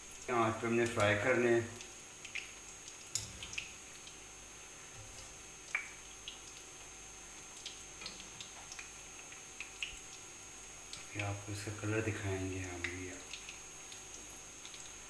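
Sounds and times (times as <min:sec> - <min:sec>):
faint frying sizzle: 0:00.0 - 0:15.0.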